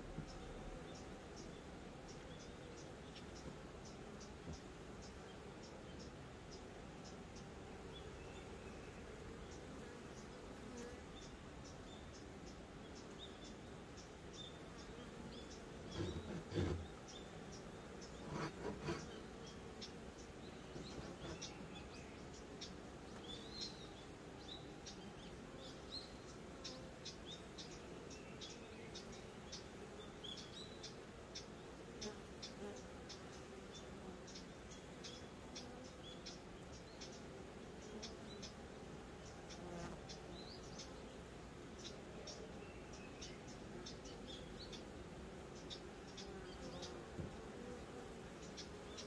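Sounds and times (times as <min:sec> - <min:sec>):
bee flying close by: 0:00.0 - 0:11.3, 0:14.2 - 0:49.0
bees buzzing: 0:00.0 - 0:49.0.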